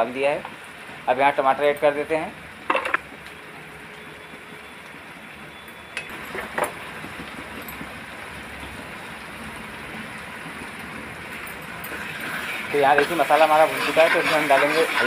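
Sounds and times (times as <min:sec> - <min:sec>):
oil and paste sizzling in a pan: 0:00.0 - 0:15.0.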